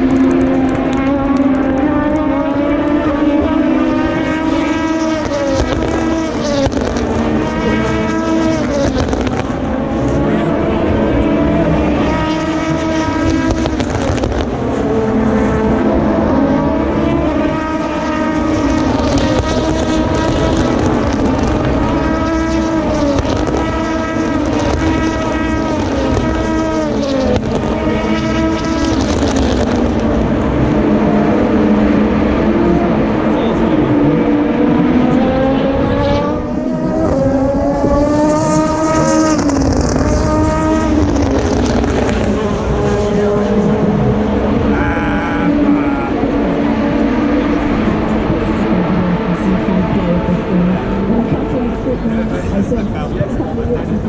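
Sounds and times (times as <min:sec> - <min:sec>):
race cars passing: 0:00.0 - 0:54.0.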